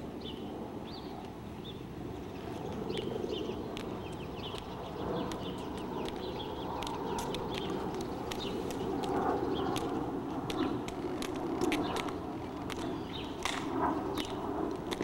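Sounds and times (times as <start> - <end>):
hard shoes clicking on stone: 2.4 - 15.0.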